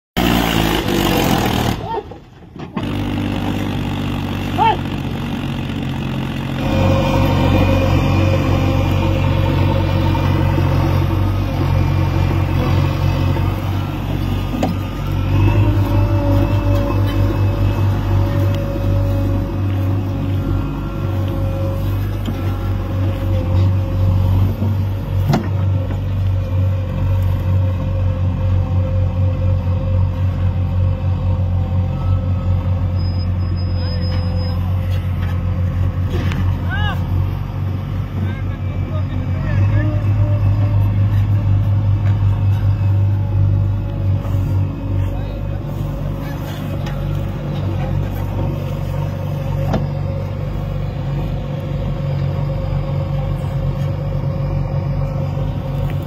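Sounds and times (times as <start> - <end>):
tractor diesel engine running: 0.1 - 56.0
backhoe diesel engine running: 0.2 - 56.0.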